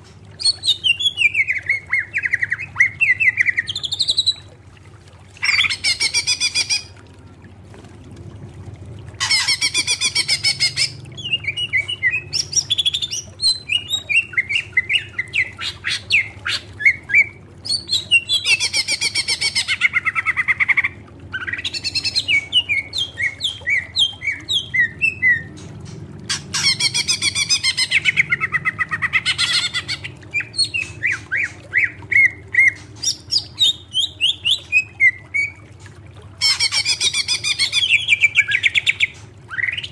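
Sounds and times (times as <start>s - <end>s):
faint low hum: 0.0s - 39.9s
bird singing trills and whistles: 0.4s - 4.5s, 9.2s - 25.6s, 26.3s - 35.6s, 36.4s - 39.9s.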